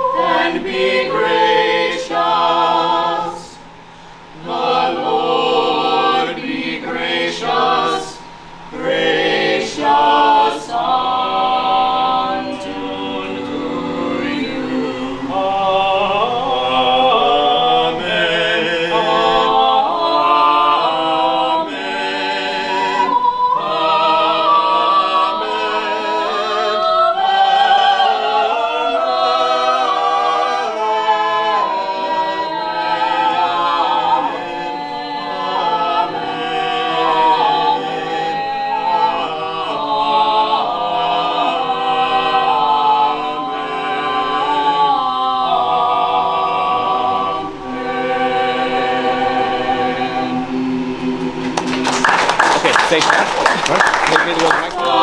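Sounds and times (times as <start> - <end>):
choir singing slow held chords: 0.0 - 55.0.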